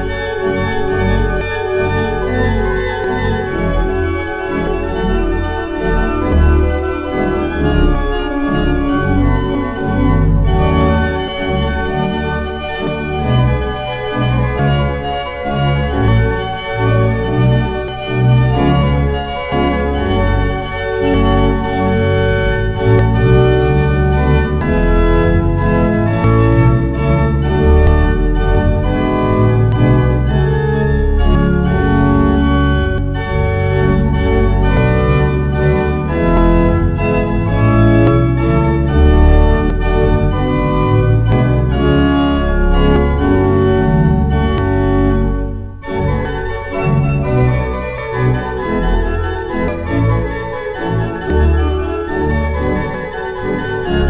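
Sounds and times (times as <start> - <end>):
church organ chords: 0.0 - 54.0
deep organ pedal bass: 0.0 - 54.0.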